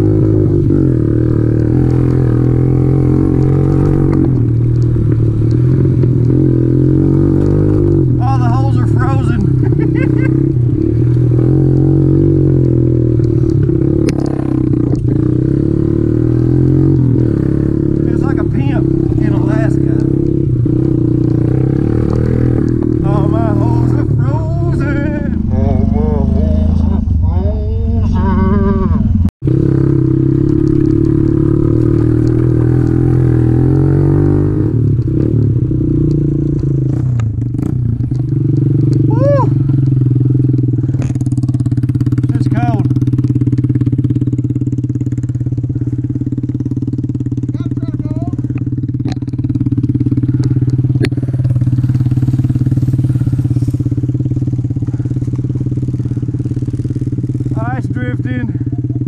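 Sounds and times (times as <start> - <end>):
motorbike engine running: 0.0 - 59.0.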